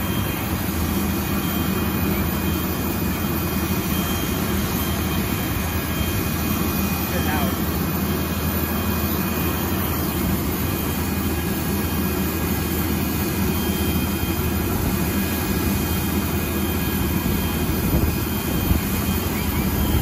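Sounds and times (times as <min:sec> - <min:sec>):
faint high whine: 0:00.0 - 0:20.0
ground power equipment drone: 0:00.0 - 0:20.0.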